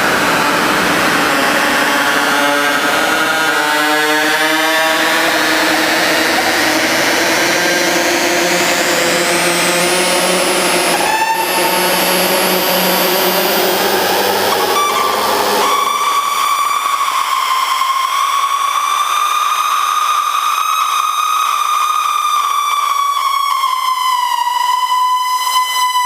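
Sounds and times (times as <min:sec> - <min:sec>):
harsh synthesizer noise: 0:00.0 - 0:26.0
high synthesizer drone: 0:00.0 - 0:26.0.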